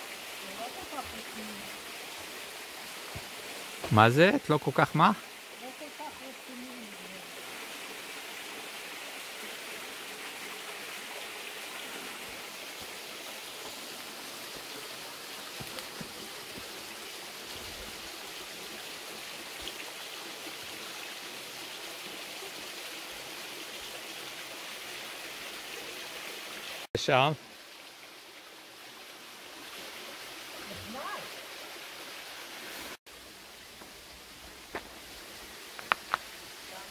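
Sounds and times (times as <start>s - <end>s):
stream flowing: 0.0s - 36.9s.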